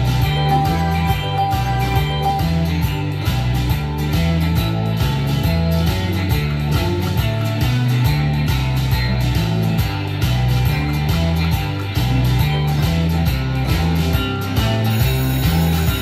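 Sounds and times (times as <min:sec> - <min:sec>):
guitar rock music: 0:00.0 - 0:16.0.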